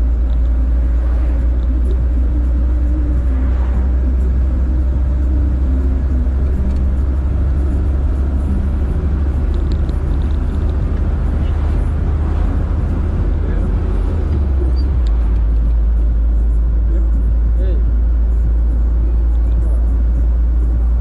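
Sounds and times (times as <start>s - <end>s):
car driving on road: 0.0s - 21.0s.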